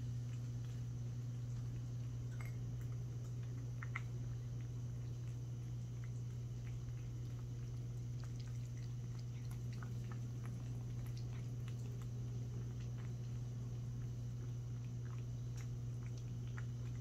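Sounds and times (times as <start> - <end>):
cat lapping water: 0.0 - 17.0
steady low hum: 0.0 - 17.0.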